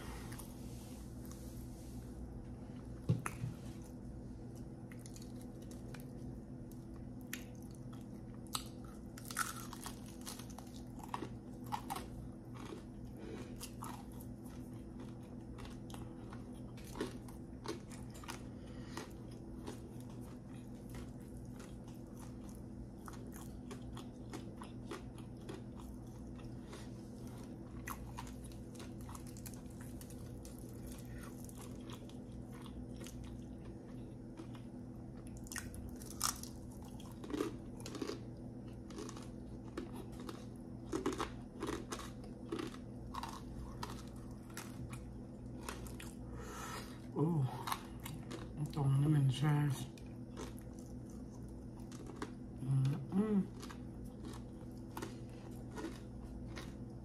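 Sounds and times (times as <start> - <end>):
steady low hum: 0.0 - 57.0
chewing crispy fried chicken: 2.8 - 57.0.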